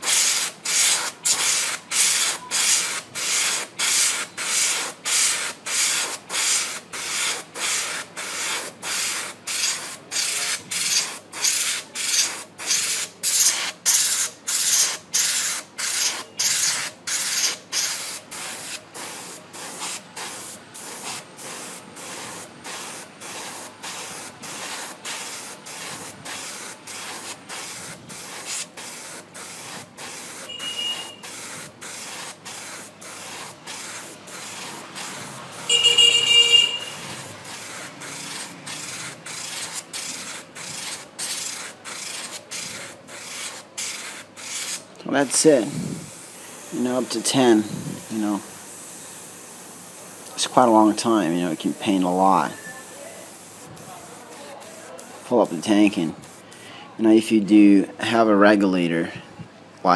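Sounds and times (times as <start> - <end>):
airbrush hissing in bursts: 0.0 - 56.7.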